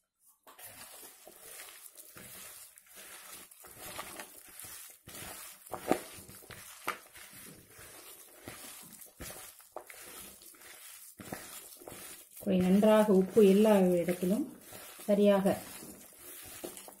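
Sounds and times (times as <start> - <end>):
hands kneading wet batter: 0.1 - 17.0.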